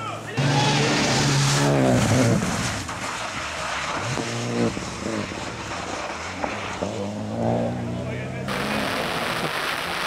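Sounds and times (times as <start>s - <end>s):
tyres hissing on wet road: 0.4s - 7.4s, 8.5s - 10.0s
rally car engine revving: 0.4s - 10.0s.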